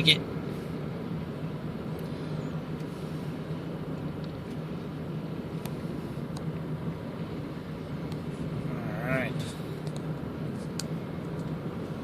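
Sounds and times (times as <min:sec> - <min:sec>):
car engine and road noise: 0:00.0 - 0:12.0
constant low hum: 0:00.0 - 0:12.0.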